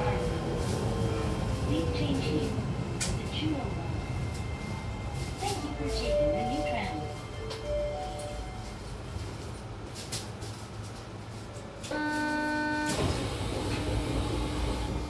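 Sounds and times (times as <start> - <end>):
tram low rumble: 0.0 - 15.0.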